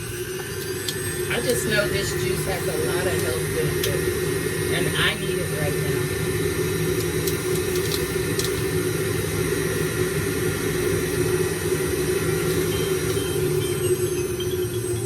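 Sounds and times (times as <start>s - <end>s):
electric juicer motor humming: 0.0s - 15.0s.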